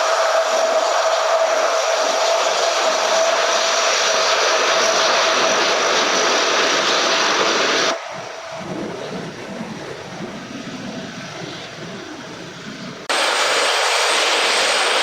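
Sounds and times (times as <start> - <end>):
jet engine turbine whine: 0.0 - 15.0.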